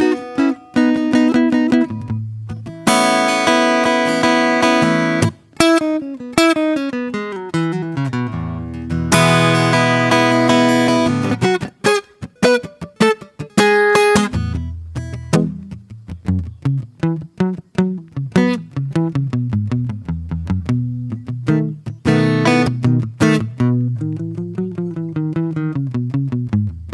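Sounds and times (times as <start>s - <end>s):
acoustic guitar played softly: 0.0s - 26.9s.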